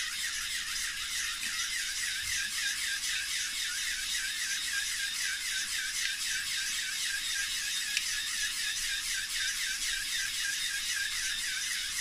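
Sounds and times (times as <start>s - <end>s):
motors whirring with rhythmic pulsing: 0.0s - 12.0s.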